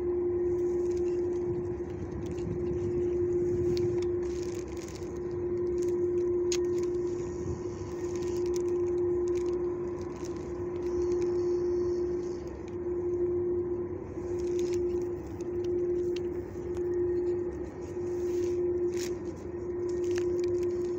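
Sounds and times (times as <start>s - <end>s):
machine hum: 0.0s - 20.9s.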